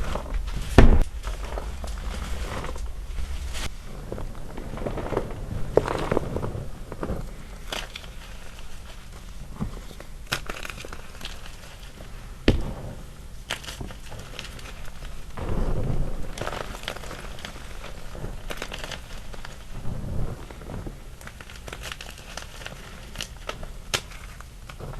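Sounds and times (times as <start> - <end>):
chalk snapping and crackling: 0.0 - 24.9.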